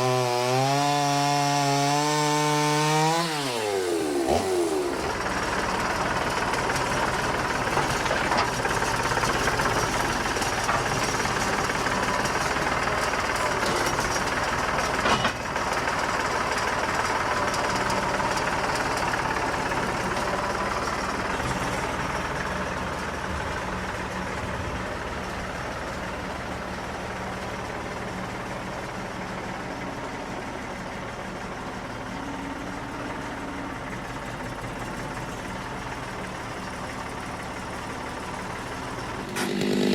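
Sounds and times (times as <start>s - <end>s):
engine idling: 3.6s - 39.9s.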